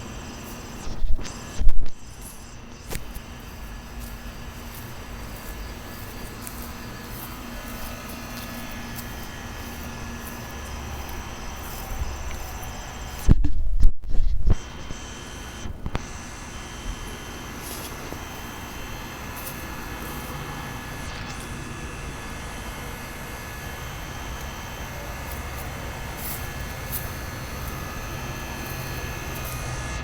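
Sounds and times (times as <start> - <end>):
insects chirping: 0.0 - 13.3, 14.6 - 30.0.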